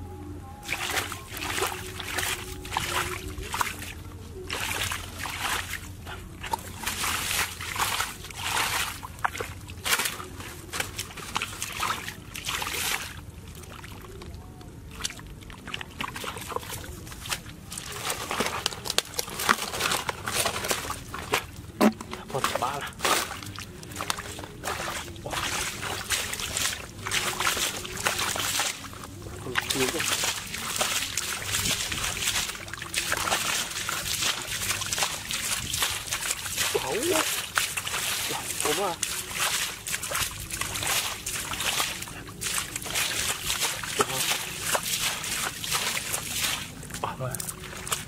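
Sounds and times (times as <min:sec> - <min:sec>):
bare feet squelching through muddy water: 0:00.6 - 0:48.0.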